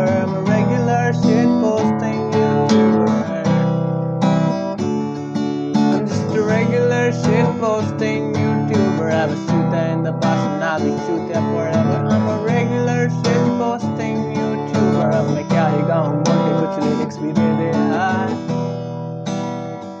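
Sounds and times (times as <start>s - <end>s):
person singing: 0.0s - 3.8s, 5.8s - 18.6s
strummed acoustic guitar: 0.0s - 20.0s.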